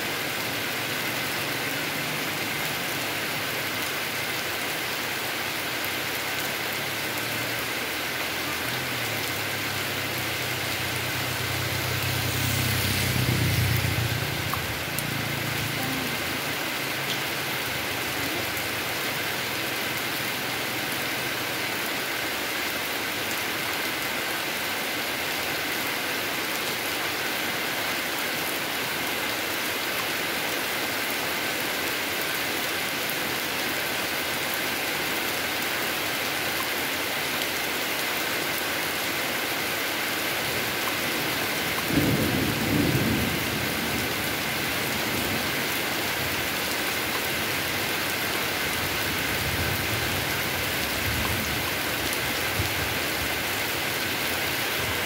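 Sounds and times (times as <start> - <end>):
heavy rain on road: 0.0 - 55.0.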